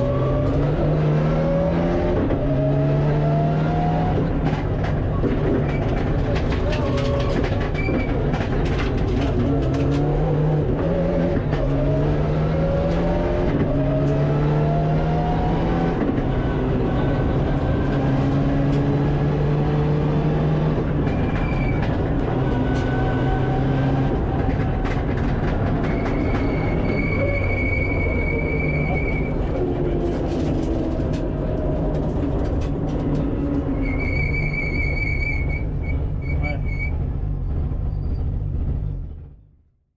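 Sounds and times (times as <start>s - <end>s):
rally car engine at full throttle: 0.0s - 39.6s.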